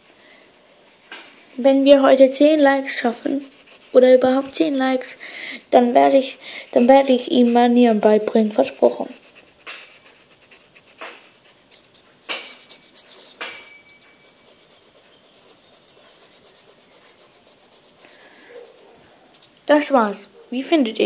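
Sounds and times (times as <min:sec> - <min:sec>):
scratching strokes on paper: 0:00.0 - 0:19.6
faint steady hiss: 0:00.0 - 0:21.0.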